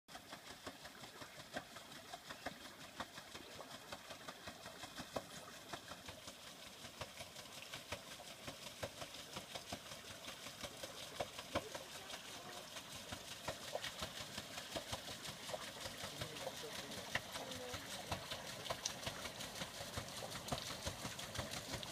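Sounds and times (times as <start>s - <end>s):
paddle wheel churning water: 0.1s - 21.9s.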